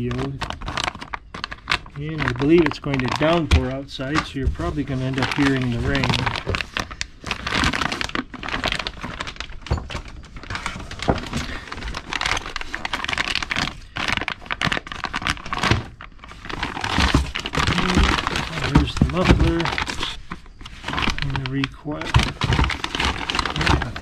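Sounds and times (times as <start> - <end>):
plastic bags crinkling: 0.0 - 24.0.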